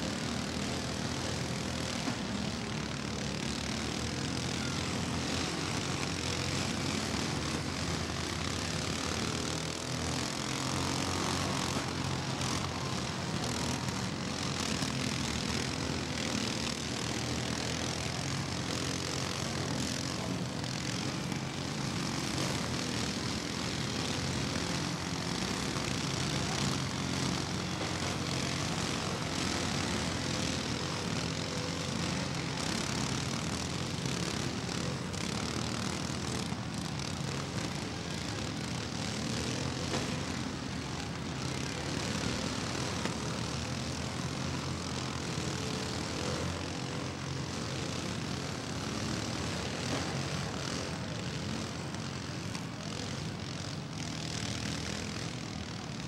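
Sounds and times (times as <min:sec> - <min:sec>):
riding lawn mower engines droning: 0:00.0 - 0:56.0.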